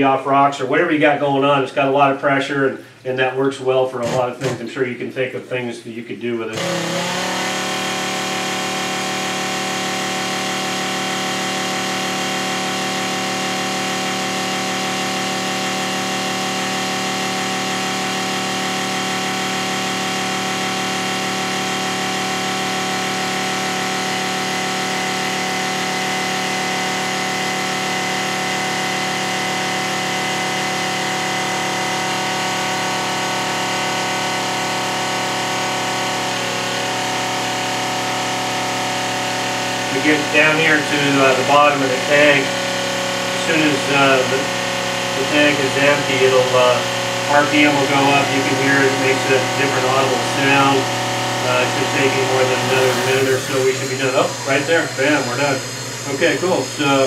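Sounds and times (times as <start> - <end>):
electric pump motor hum: 3.7 - 4.6, 6.5 - 57.0.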